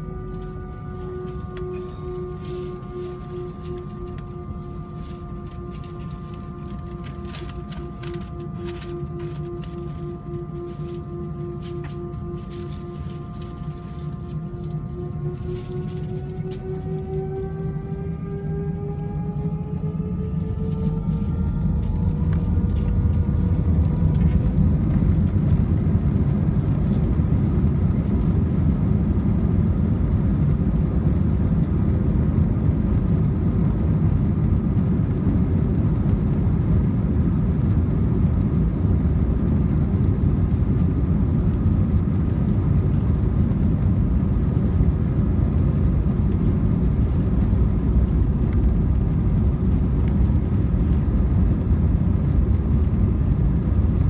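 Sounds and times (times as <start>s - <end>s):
engine rumble and rushing air: 0.0s - 54.0s
jet engine whine: 0.0s - 54.0s.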